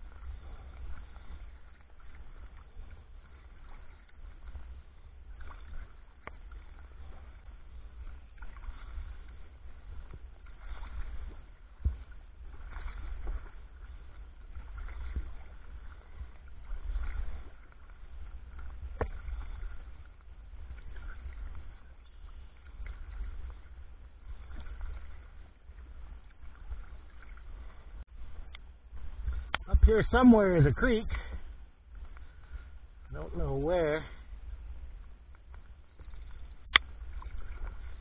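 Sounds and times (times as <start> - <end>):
paddle strokes splashing water: 0.0 - 38.0.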